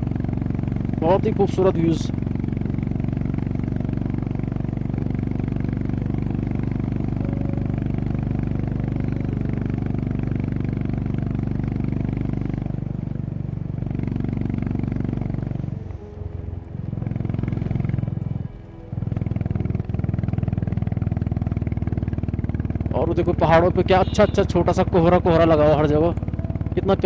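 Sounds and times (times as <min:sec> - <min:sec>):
motorcycle engine pulsing: 0:00.0 - 0:27.0.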